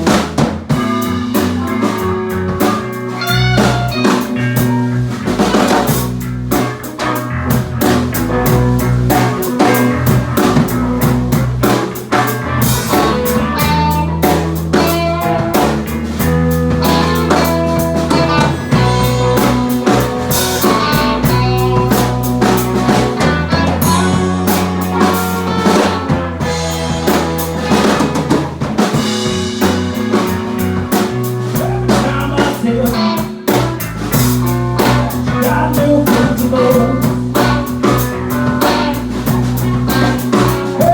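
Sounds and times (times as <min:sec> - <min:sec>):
bass line: 0:00.0 - 0:40.9
drum kit with snare hits: 0:00.0 - 0:40.9
electric guitar: 0:00.0 - 0:40.9.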